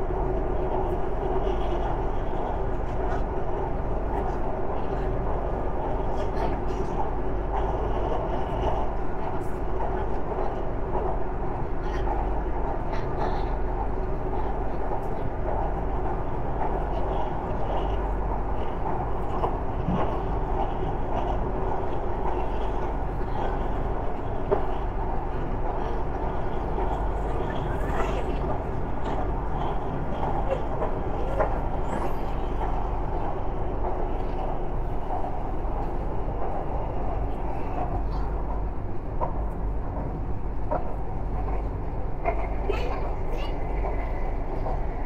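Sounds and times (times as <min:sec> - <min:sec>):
train carriage rumble: 0:00.0 - 0:45.0.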